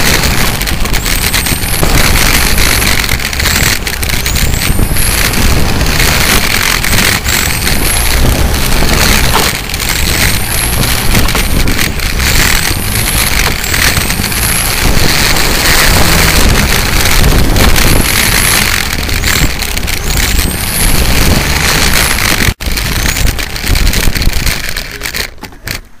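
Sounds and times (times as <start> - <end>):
high motor whine: 0.0 - 24.8
wind and road noise: 0.0 - 26.0.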